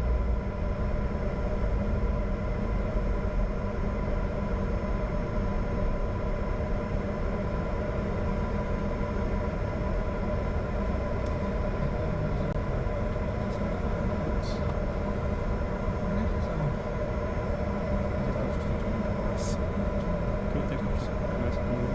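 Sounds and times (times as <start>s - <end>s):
jet engine and airflow rumble: 0.0s - 21.9s
steady whining tones: 0.0s - 21.9s.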